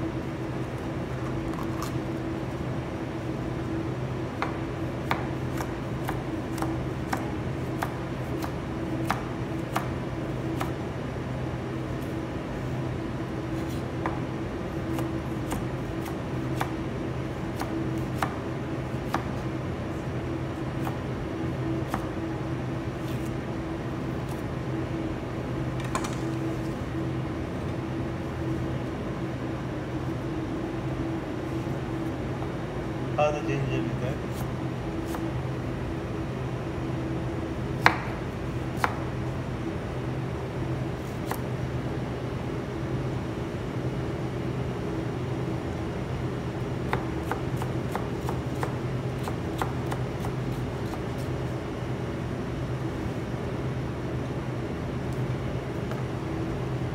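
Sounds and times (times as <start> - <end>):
steady fan hum: 0.0 - 56.9.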